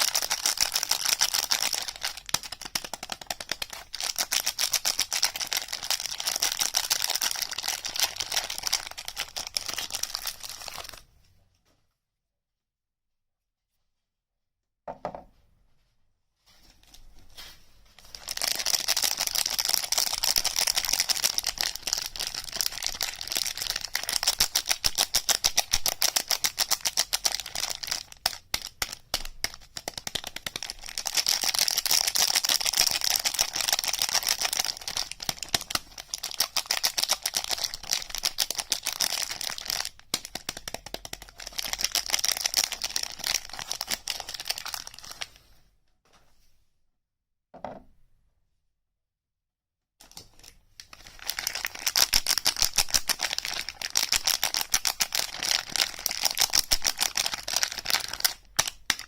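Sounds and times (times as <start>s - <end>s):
packaging crackling: 0.0s - 11.0s, 18.0s - 45.3s, 50.0s - 59.0s.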